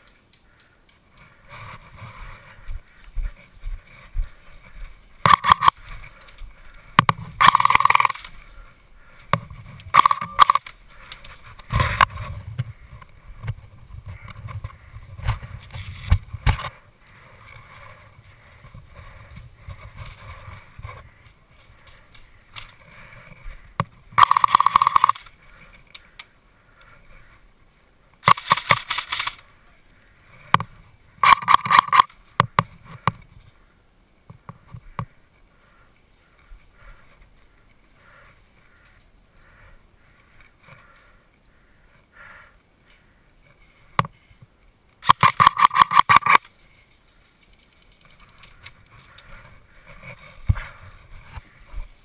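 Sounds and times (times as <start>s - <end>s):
rustle of movement: 0.0s - 52.0s.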